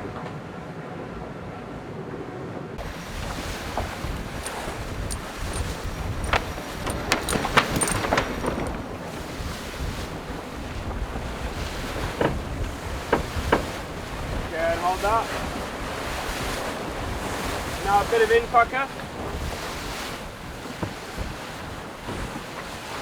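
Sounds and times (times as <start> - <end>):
wind: 0.0 - 23.0
rushing sea water: 2.8 - 23.0
wind buffeting microphone: 2.8 - 23.0.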